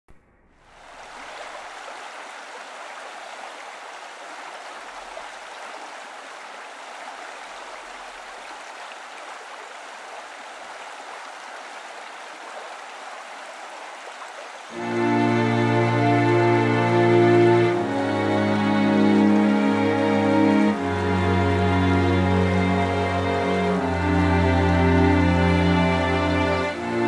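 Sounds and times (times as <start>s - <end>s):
stream flowing over rocks: 0.6s - 27.0s.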